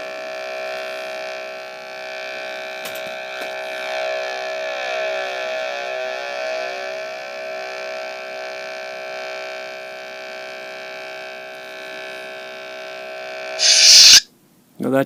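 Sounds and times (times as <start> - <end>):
buzzing electronic hum: 0.0 - 14.3.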